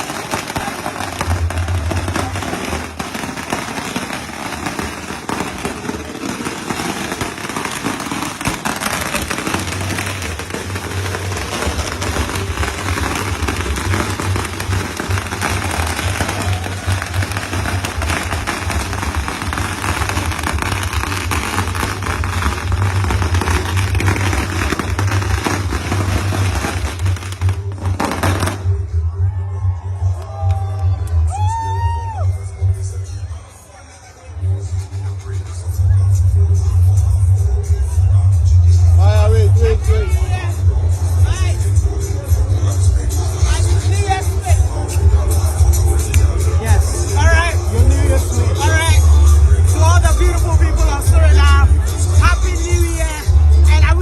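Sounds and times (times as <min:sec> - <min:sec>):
firecrackers crackling: 0:00.0 - 0:29.1, 0:34.3 - 0:54.0.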